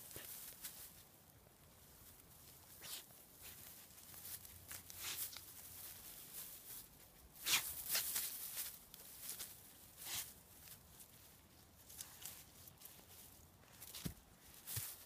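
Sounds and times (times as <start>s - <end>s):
dry grass rustling and crunching: 0.0s - 15.0s.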